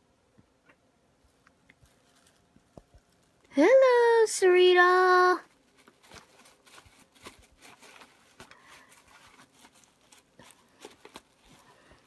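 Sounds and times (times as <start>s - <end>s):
plastic bag rustling: 1.3s - 12.0s.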